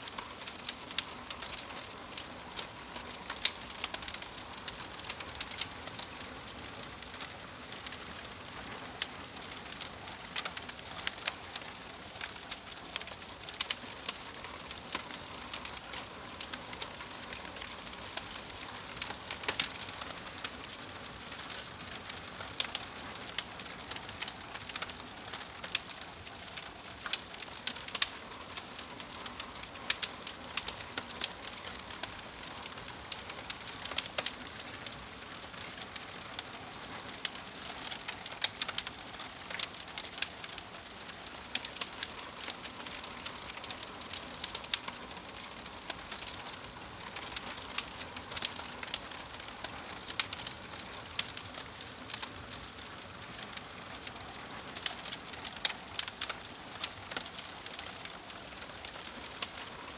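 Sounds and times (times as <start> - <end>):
fire crackling and popping: 0.0 - 59.9
soft hiss of fire: 0.0 - 59.9.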